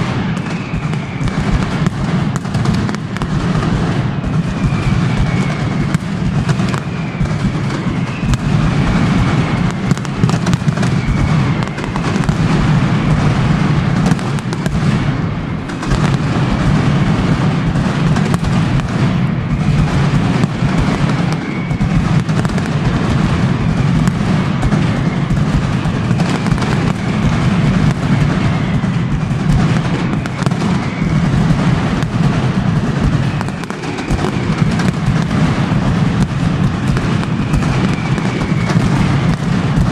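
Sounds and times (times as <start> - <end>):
firecracker bangs: 0.0 - 39.9
whistling fireworks: 0.0 - 39.9.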